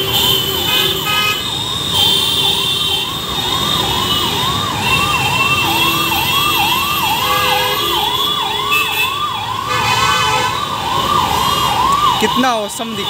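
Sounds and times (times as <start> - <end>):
car horns: 0.0 - 10.7
electronic siren yelping: 0.0 - 13.0
heavy road traffic: 0.0 - 13.0.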